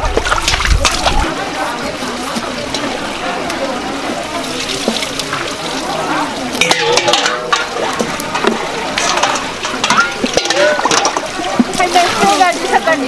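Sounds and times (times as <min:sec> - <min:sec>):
market chatter: 0:00.0 - 0:13.0
water sloshing: 0:00.0 - 0:13.0.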